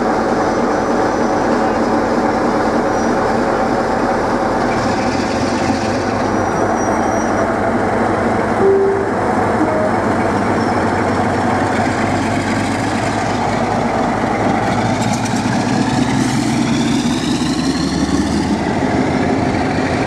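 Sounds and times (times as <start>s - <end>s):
diesel locomotive engine working hard: 0.0s - 20.0s.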